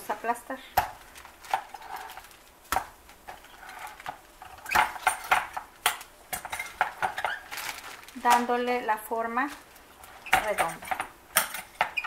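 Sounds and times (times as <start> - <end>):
plastic rustling: 0.0 - 12.0.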